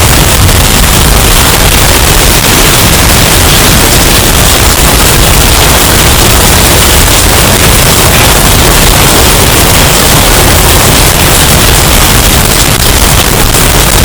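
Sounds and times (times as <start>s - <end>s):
distorted hurricane wind: 0.0s - 14.0s.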